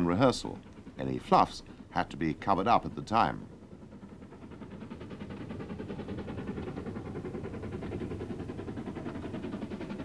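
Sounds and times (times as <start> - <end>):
machine running with even pulse: 0.0 - 10.0.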